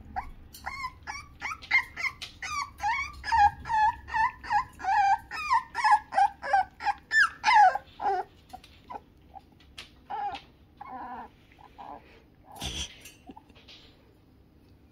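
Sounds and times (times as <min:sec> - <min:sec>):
puppy whining yips: 0:00.0 - 0:12.9.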